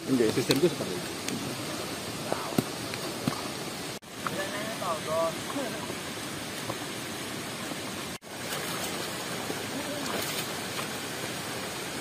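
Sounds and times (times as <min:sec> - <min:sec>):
heavy rain hissing: 0:00.0 - 0:12.0
running water: 0:00.0 - 0:12.0.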